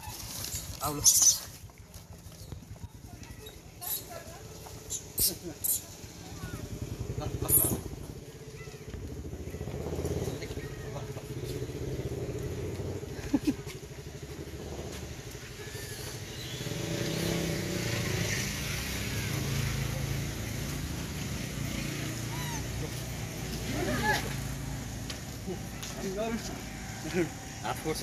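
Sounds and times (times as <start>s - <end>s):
engine running: 4.2s - 28.0s.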